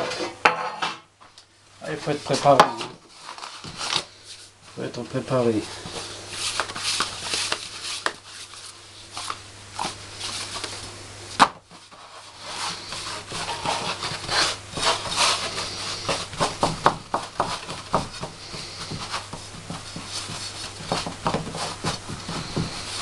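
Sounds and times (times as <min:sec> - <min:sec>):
hands rubbing and patting dough: 0:01.8 - 0:11.0, 0:11.6 - 0:23.0.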